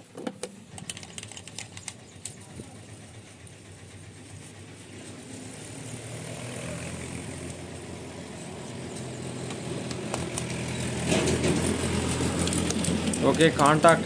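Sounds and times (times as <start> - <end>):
low mechanical engine hum: 0.0 - 14.0.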